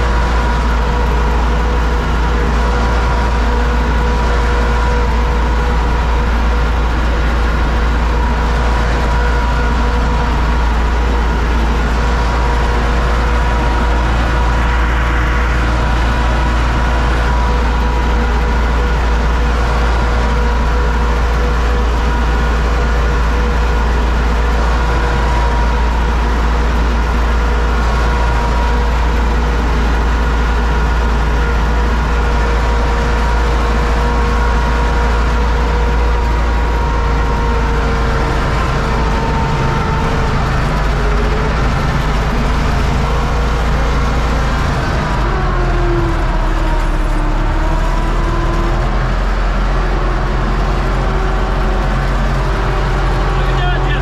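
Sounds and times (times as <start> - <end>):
corn picker whine: 0.0 - 54.0
tractor diesel engine running: 0.0 - 54.0.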